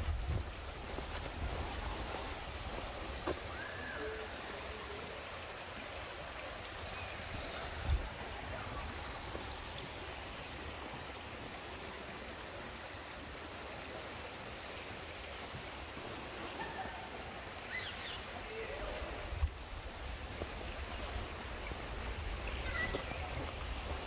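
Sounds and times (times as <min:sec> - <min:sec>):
creek water flowing: 0:00.0 - 0:24.0.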